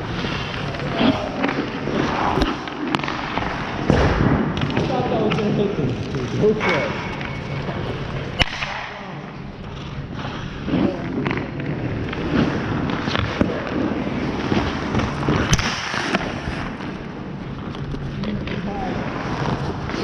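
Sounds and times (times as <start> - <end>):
hockey sticks and pucks cracking: 0.0 - 20.0
pucks striking pads and boards: 0.0 - 20.0
skates scraping on ice: 0.0 - 20.0.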